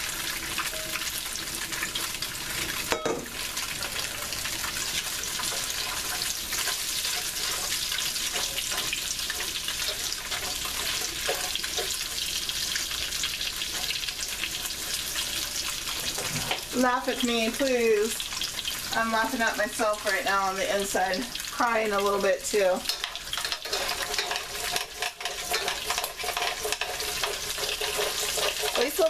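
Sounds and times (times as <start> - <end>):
vegetables sizzling in hot oil: 0.0 - 29.0
metal utensil scraping a pan: 2.0 - 18.8, 22.0 - 29.0.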